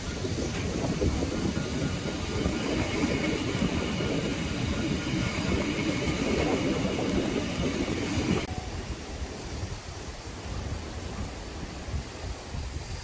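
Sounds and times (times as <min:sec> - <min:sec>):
small train wheels rumbling: 0:00.0 - 0:13.0.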